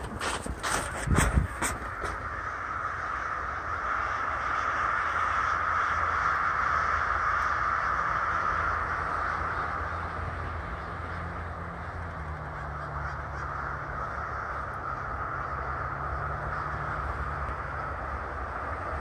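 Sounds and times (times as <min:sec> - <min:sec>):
crows cawing: 0:00.0 - 0:19.0.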